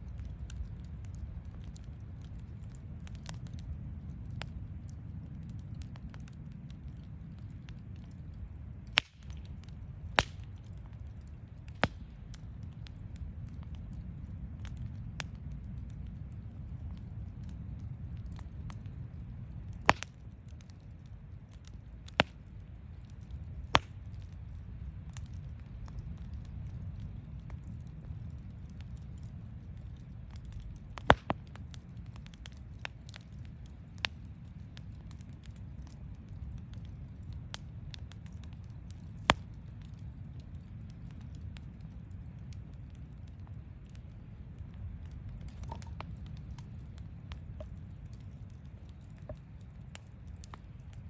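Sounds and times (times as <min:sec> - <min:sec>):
burning wood popping and cracking: 0:00.0 - 0:51.0
campfire rumble: 0:00.0 - 0:51.0.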